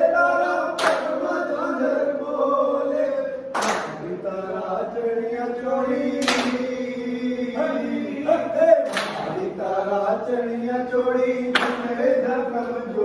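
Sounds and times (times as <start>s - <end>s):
group chanting a devotional song: 0.0s - 13.0s.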